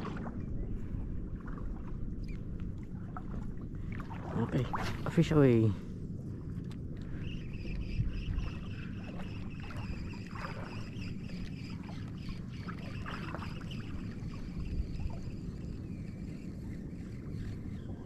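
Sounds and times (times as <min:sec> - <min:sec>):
water lapping: 0:00.0 - 0:18.0.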